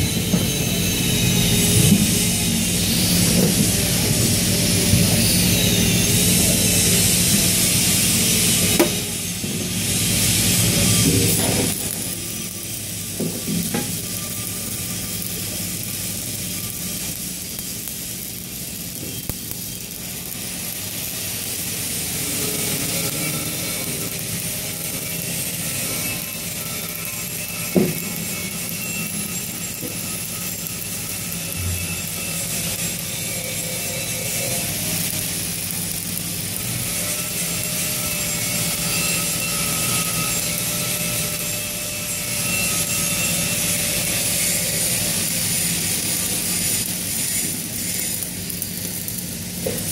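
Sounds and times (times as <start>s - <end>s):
welding arc crackling hiss: 0.0s - 49.9s.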